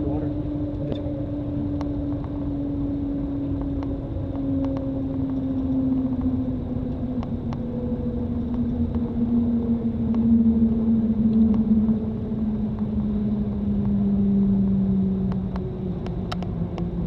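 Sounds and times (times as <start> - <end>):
train whine over low rumble: 0.0 - 17.0.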